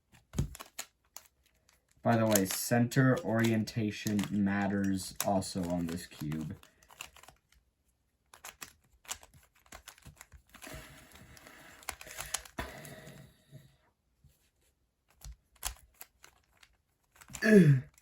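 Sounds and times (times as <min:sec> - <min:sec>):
plastic puzzle pieces clicking: 0:00.1 - 0:07.6, 0:08.3 - 0:12.6, 0:15.1 - 0:18.0.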